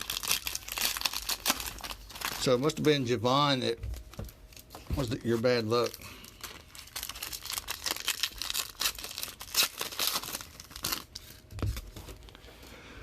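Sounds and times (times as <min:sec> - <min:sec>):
plastic packaging crinkling and tearing: 0:00.0 - 0:12.5.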